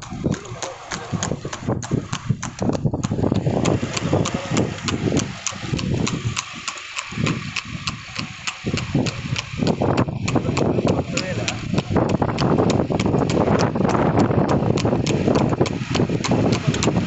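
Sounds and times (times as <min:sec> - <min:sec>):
hooves clip-clopping on pavement: 0:00.0 - 0:17.0.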